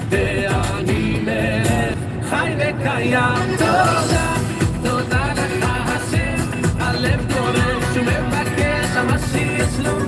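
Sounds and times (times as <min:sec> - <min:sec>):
pop music with singing: 0:00.0 - 0:10.0.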